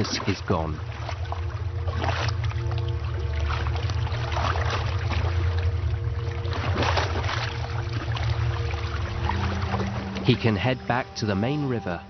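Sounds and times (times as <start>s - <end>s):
steady low drone: 0.0s - 12.0s
water splashing and sloshing: 0.0s - 12.0s.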